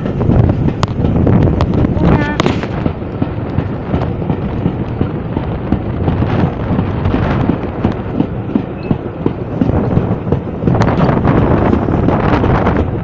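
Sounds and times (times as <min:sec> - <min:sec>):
train rumbling past: 0:00.0 - 0:13.0
wind buffeting microphone: 0:00.0 - 0:13.0.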